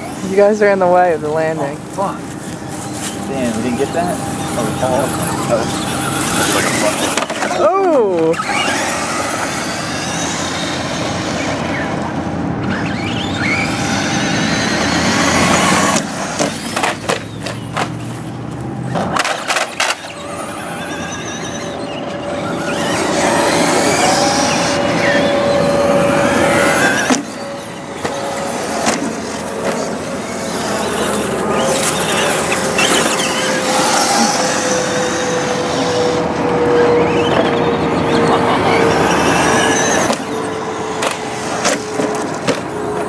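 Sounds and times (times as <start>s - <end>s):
rc truck motor whine: 0.0s - 43.0s.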